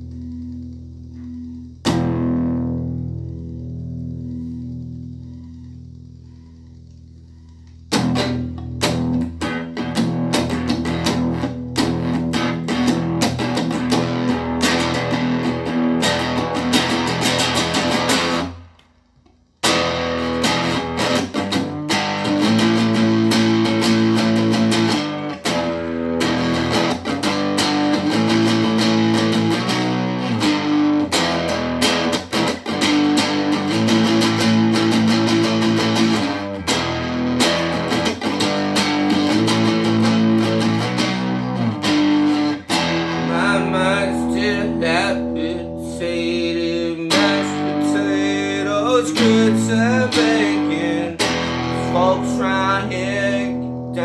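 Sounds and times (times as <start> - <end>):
electric guitar strumming: 0.0 - 54.0.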